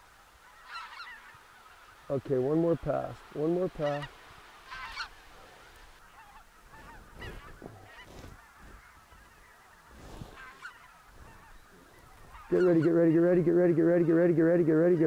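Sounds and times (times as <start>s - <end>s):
faint geese calls: 0.0s - 15.0s.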